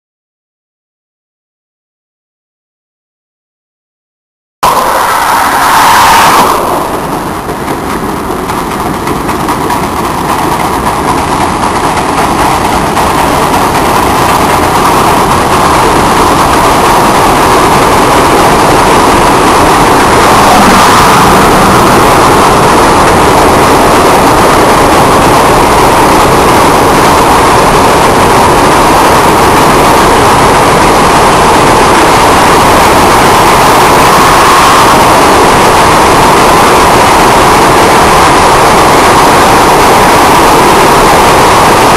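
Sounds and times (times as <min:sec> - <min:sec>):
freight train rumbling: 0:04.6 - 0:41.9.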